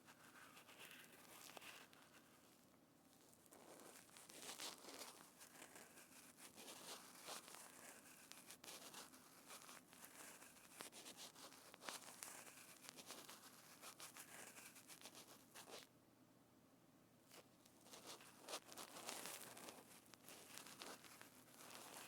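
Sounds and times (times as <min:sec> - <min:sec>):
soft crackling and rustling: 0:00.0 - 0:15.9, 0:17.2 - 0:22.0.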